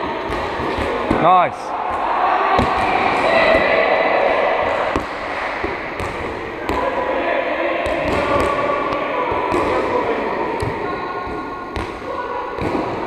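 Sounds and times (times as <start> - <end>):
sports hall background din: 0.0 - 13.0.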